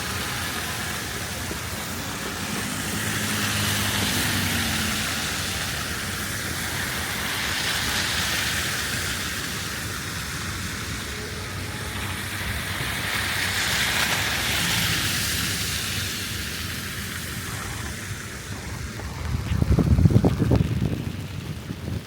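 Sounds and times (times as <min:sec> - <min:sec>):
tyres hissing on slush: 0:00.0 - 0:19.0
low traffic rumble: 0:00.0 - 0:22.0.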